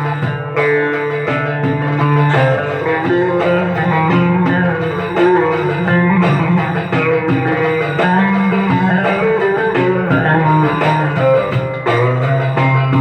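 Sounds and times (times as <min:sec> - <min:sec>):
electric lute folk melody: 0:00.0 - 0:13.0.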